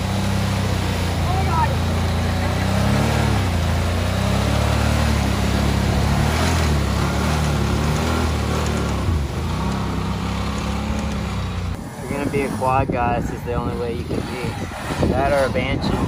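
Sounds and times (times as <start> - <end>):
atv engine revving: 0.0 - 16.0
water and mud splashing: 0.0 - 16.0.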